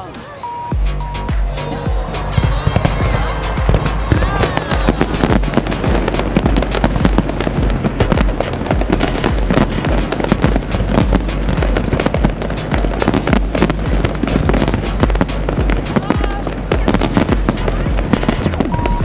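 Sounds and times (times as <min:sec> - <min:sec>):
fireworks crackling and popping: 0:00.0 - 0:19.0
loud music with heavy bass: 0:00.0 - 0:19.0.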